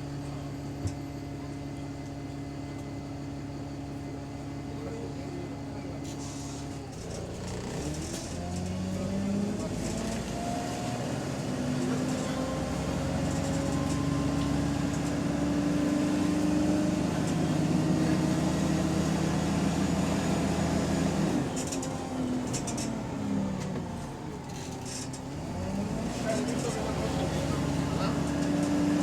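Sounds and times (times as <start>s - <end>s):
bus engine droning and whining: 0.0s - 29.0s.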